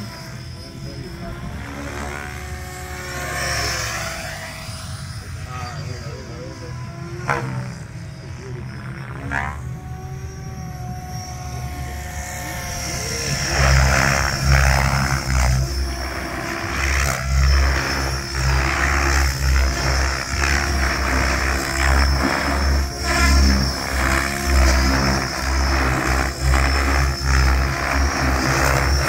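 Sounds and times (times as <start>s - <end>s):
model helicopter rotor noise: 0.0s - 29.0s
steady high whine: 0.0s - 29.0s.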